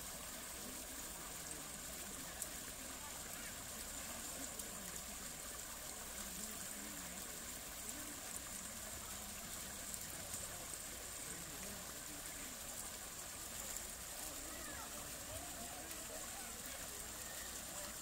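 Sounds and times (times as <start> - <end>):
stream water over rocks: 0.0 - 18.0.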